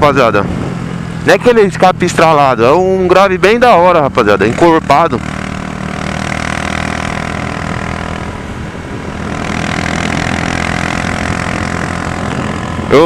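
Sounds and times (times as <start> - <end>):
motorcycle engine exhaust note: 2.0 - 13.0.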